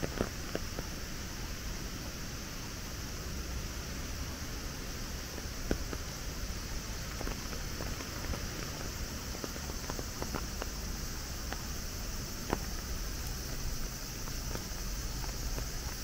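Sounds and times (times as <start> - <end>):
raindrops tapping: 0.0 - 2.2, 3.7 - 16.0
rain hissing: 0.0 - 16.0.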